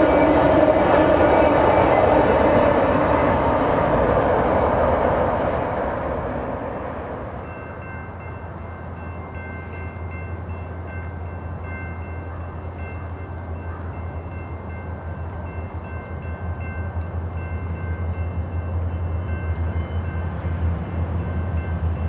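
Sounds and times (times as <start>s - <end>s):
diesel locomotives rumbling: 0.0s - 22.0s.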